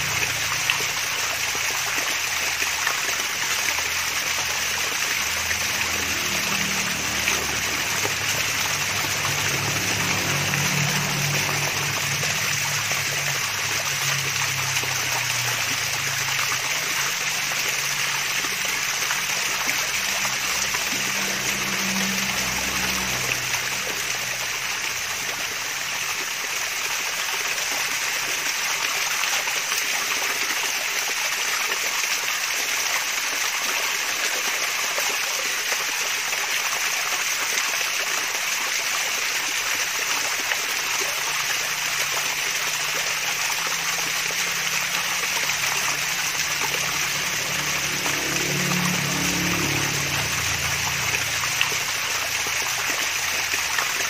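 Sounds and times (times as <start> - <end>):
waterfall trickling and splashing: 0.0 - 54.0.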